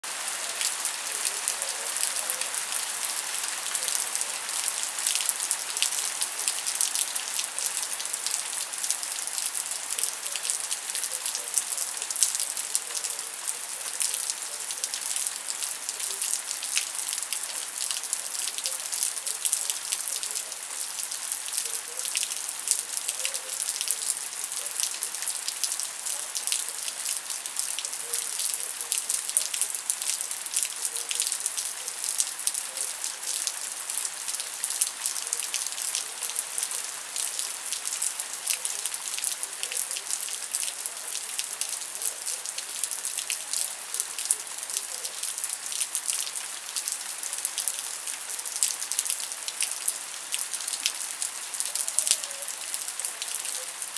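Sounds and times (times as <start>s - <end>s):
rain falling on leaves: 0.0s - 53.9s.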